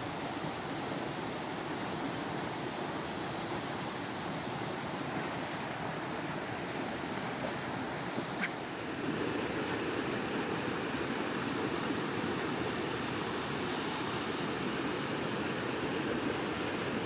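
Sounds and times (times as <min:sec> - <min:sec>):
rushing stream water: 0:00.0 - 0:17.0.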